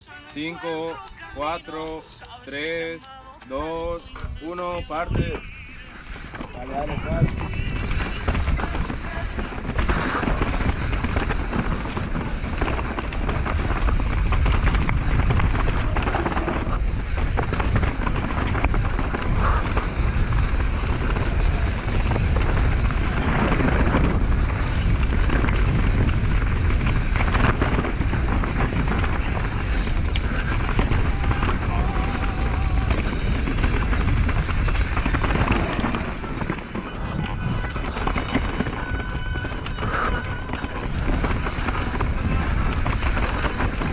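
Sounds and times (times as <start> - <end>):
wind buffeting microphone: 4.3 - 43.9
mountain bike rattling over dirt: 4.9 - 43.9.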